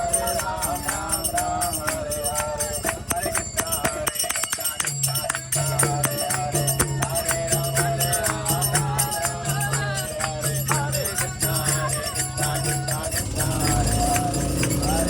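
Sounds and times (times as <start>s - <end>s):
jingling percussion strikes: 0.0s - 15.0s.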